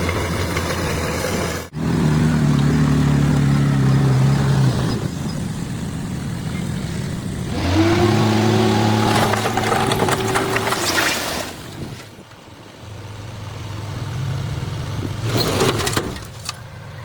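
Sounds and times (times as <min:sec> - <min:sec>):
bulldozer diesel engine working: 0:00.0 - 0:17.0.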